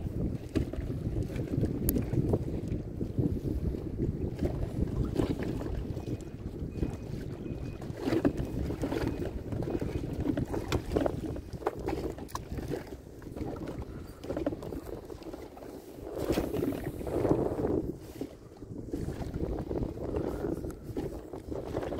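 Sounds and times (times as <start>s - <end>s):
waves lapping against boat hull: 0.0s - 21.9s
wind rumbling on microphone: 0.0s - 21.9s.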